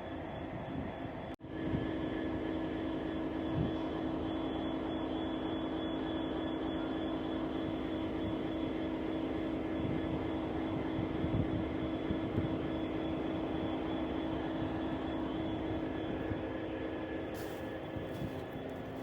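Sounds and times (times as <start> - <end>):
diesel locomotive engine droning: 0.0 - 19.0.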